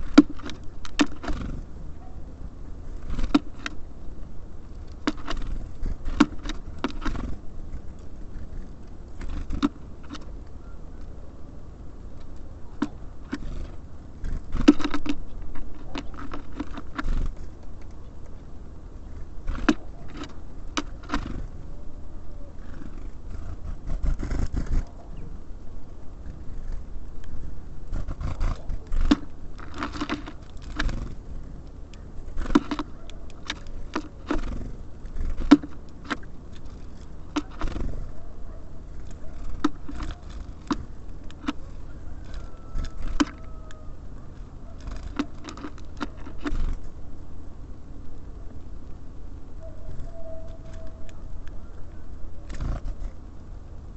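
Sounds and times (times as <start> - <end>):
birds pecking at feeder: 0.0 - 53.9.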